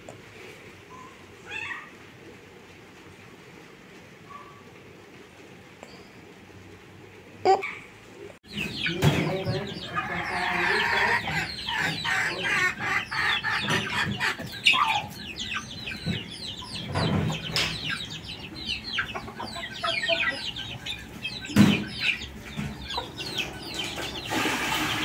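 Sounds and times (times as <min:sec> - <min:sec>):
chickens clucking: 0:00.1 - 0:25.0.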